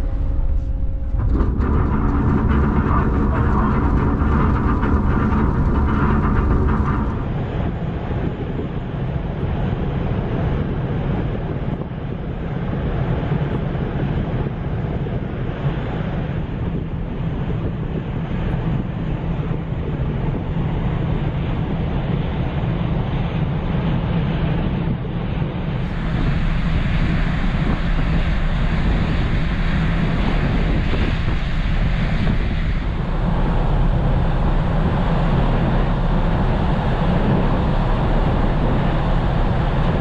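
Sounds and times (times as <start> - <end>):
water rushing along hull: 0.0 - 11.0, 12.2 - 40.0
ship engine noise: 0.0 - 13.3, 13.9 - 40.0
wind buffeting microphone: 0.0 - 40.0.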